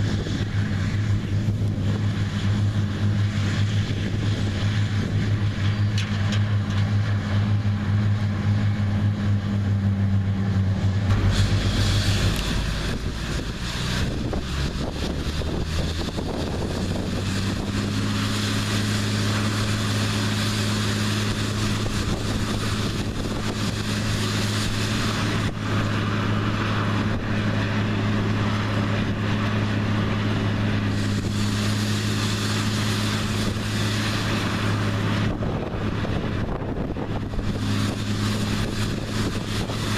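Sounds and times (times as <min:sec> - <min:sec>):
combine diesel engine droning: 0:00.0 - 0:39.9.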